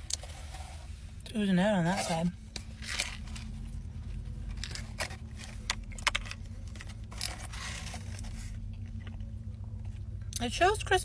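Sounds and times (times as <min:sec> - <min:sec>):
low hum inside car: 0:00.0 - 0:11.0.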